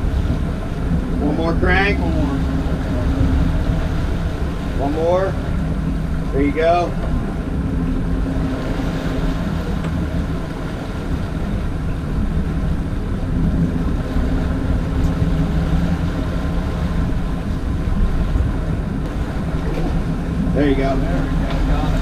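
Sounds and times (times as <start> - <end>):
boat engines droning: 0.0 - 22.0
churning water: 0.0 - 22.0
wind: 0.0 - 22.0.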